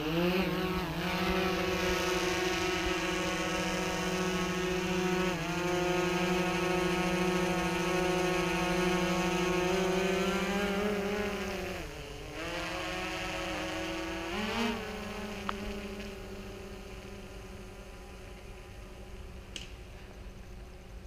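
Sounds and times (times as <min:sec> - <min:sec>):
drone propellers humming: 0:00.0 - 0:21.0.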